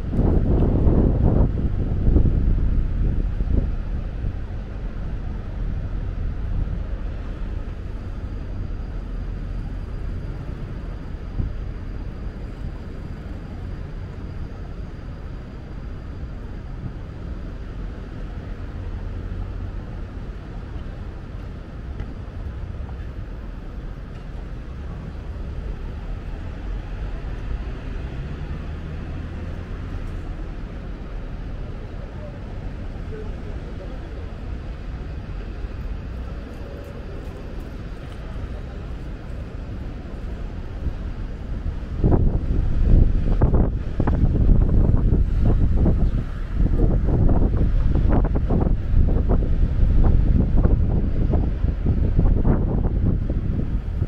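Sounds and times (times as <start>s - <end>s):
low rumble of traffic: 0.0s - 54.0s.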